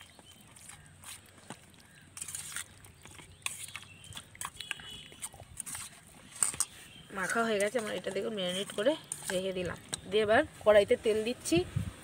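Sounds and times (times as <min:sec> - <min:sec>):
hand squelching in marinade: 0:00.0 - 0:10.3.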